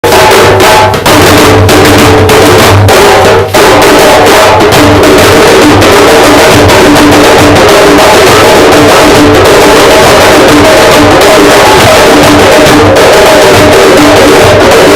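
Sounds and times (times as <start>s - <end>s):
loud music with pulsing drum beat: 0.0s - 14.9s.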